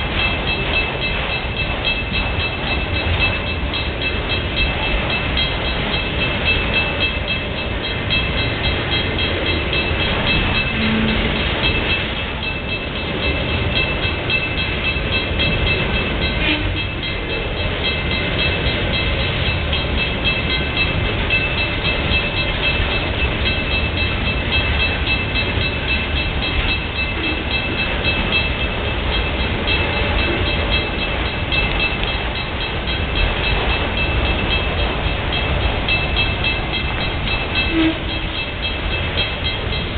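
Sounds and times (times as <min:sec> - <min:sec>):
crossing bell ringing: 0:00.0 - 0:39.9
freight train wheels rumbling: 0:00.0 - 0:39.9.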